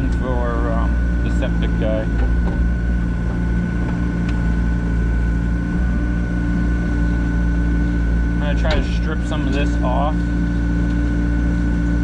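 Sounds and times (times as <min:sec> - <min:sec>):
digging machine engine running: 0:00.0 - 0:12.0.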